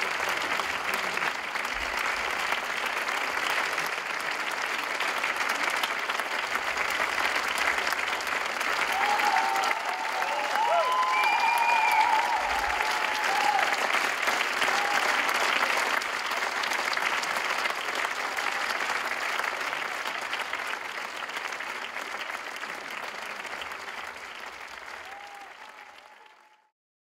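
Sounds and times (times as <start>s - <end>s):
audience applauding: 0.0s - 26.7s.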